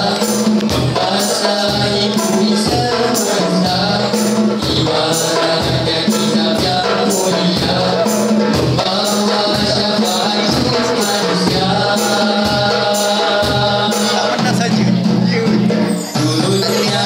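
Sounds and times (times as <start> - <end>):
boys singing together: 0.0 - 17.0
hand drum beat: 0.0 - 17.0
jingling tambourine: 0.0 - 17.0.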